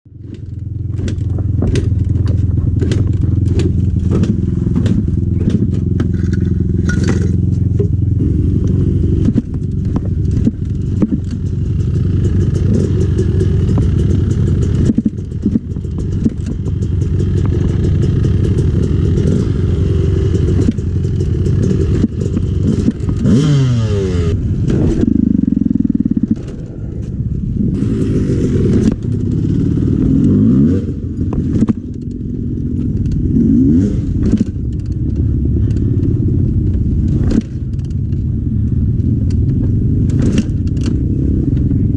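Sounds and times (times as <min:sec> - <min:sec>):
dirt bike engine idling: 0:00.1 - 0:41.9.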